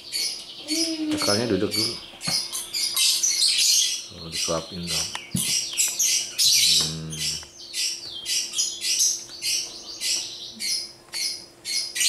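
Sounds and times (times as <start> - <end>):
lovebird squawking and chirping: 0.0 - 12.0.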